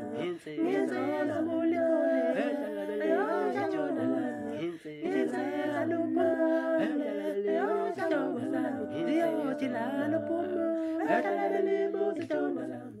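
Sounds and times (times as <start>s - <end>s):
a cappella vocal harmony: 0.0s - 13.0s.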